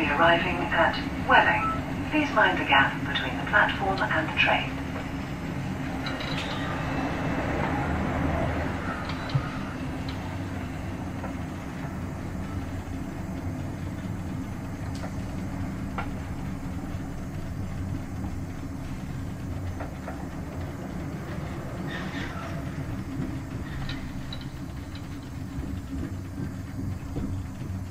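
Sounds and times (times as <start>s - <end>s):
electric train low hum: 0.0s - 27.9s.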